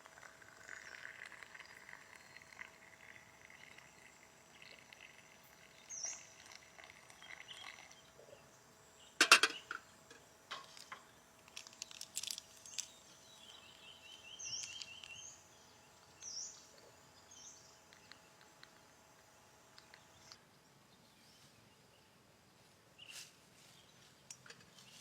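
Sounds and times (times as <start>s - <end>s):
birds chirping: 0.6s - 22.2s.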